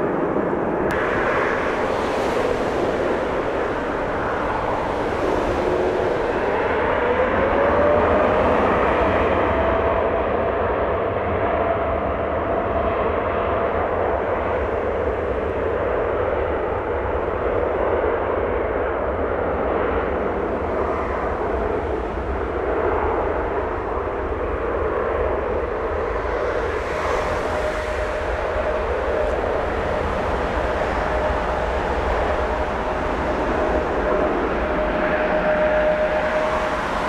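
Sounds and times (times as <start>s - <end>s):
faint engine whine: 0.0s - 37.0s
jet engines rumbling: 0.0s - 37.0s.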